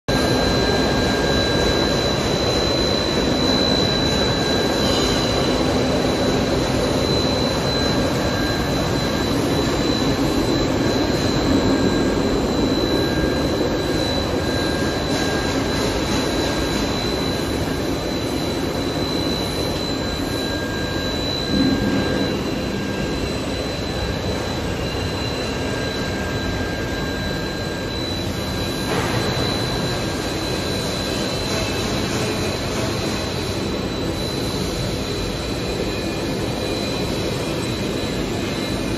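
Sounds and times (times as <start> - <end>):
high machine whine: 0.0 - 38.9
rushing machine noise: 0.1 - 38.9.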